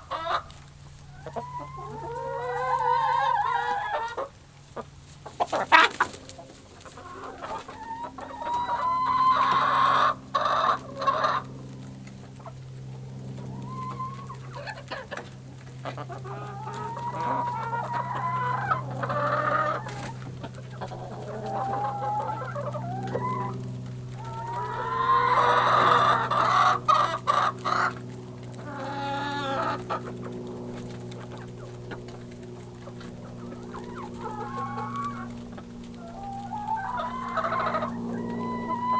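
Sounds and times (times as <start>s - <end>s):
chickens clucking and squawking: 0.0s - 38.9s
steady low hum: 0.0s - 38.9s.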